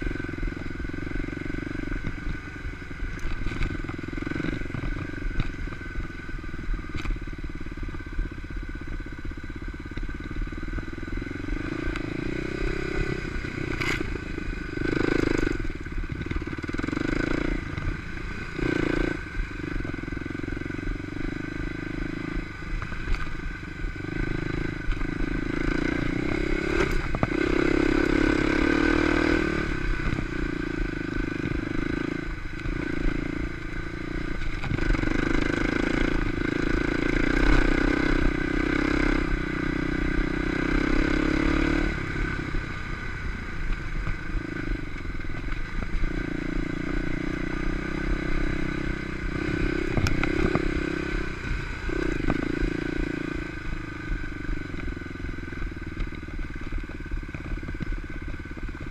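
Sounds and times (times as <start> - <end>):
motorcycle engine surging: 0.0 - 58.9.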